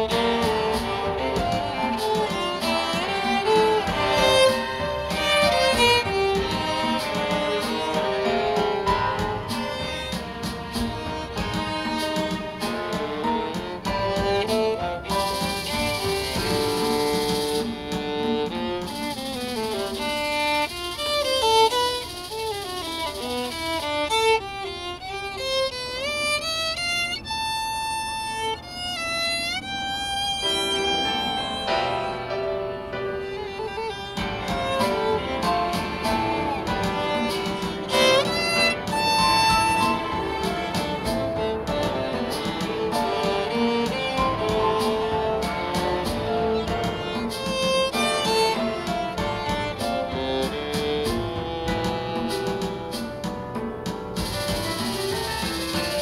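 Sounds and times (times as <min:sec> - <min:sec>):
solo bowed viola: 0:00.0 - 0:53.5, 0:54.2 - 0:56.0.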